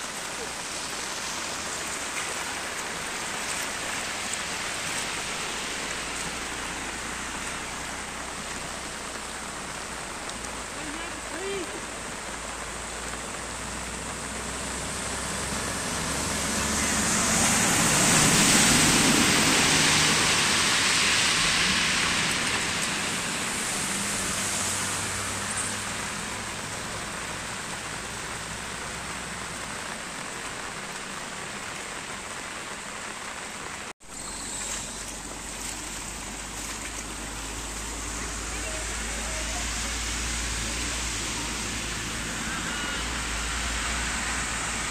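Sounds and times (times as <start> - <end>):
truck driving through water: 0.0 - 32.9, 34.1 - 44.9
car splashing through water: 0.0 - 44.9
floodwater running across road: 0.0 - 44.9
runoff water rushing: 0.0 - 44.9
steady rain: 0.0 - 44.9.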